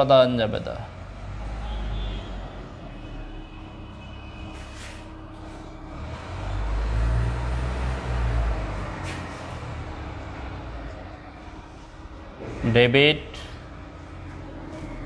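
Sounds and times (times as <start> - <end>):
passing vehicle rumble: 0.0 - 15.0.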